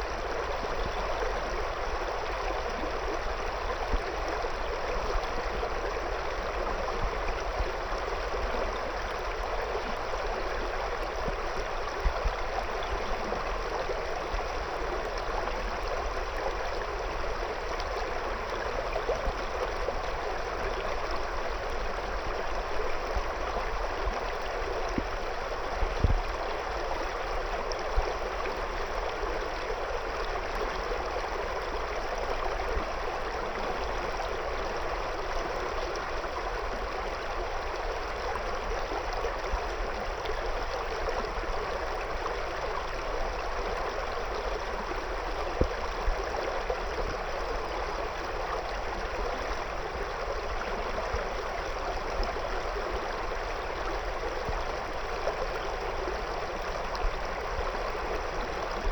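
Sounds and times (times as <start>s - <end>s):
river flowing over stones: 0.0s - 58.9s.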